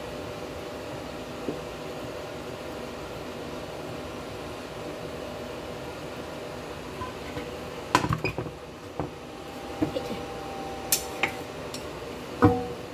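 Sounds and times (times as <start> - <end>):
steady background hum: 0.0 - 12.9.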